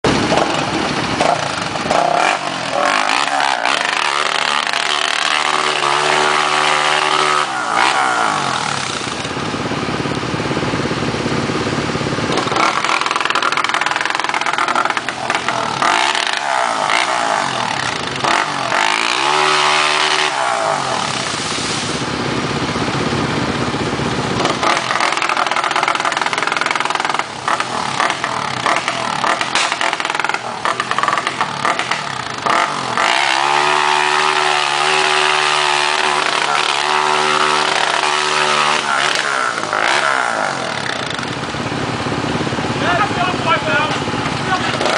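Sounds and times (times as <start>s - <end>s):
quad bike engines revving: 0.0s - 44.9s.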